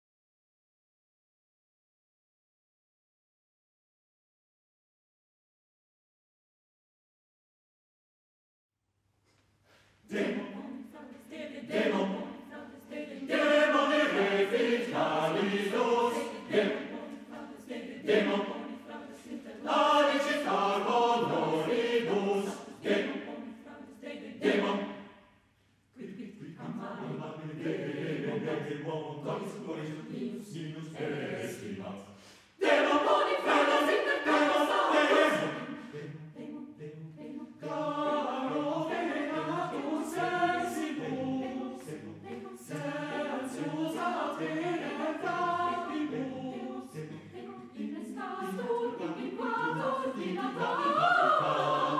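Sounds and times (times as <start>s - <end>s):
choir singing a cappella: 10.0s - 51.9s.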